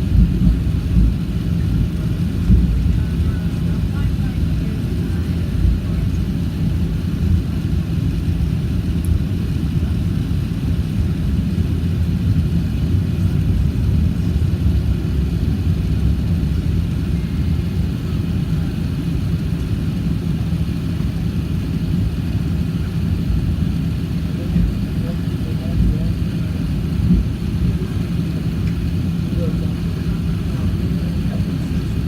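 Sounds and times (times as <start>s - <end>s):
low rumble with droning hum: 0.0s - 32.0s.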